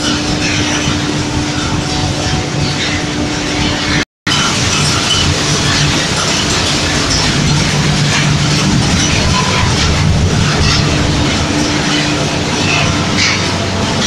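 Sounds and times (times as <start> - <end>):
machinery drone with rattling: 0.0 - 14.0.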